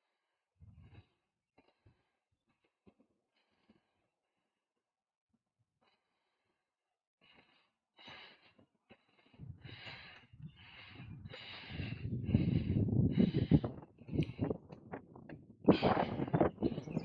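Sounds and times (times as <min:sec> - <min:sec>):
cyclist breathing hard: 0:00.0 - 0:04.6, 0:05.8 - 0:17.0.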